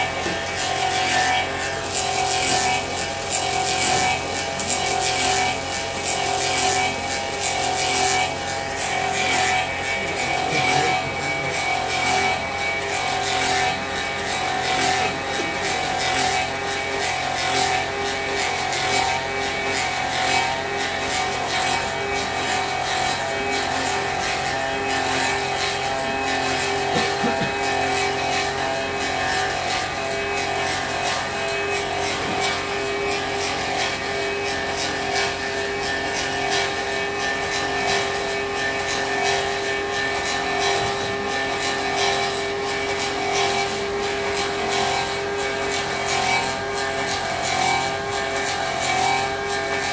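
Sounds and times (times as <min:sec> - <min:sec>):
lathe machine hum: 0:00.0 - 0:49.9
rough wood cutting noise: 0:00.0 - 0:49.9.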